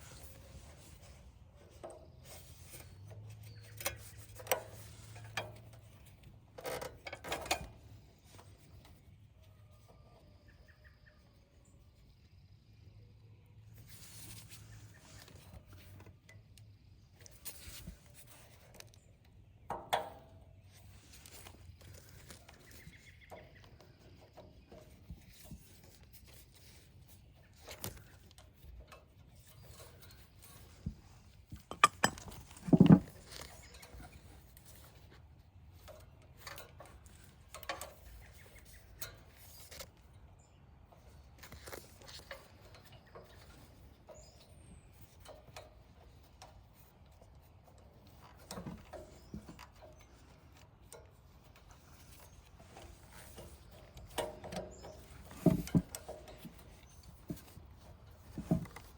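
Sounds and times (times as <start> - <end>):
tools and parts clinking: 0.0 - 9.1, 19.7 - 40.2, 40.9 - 58.9.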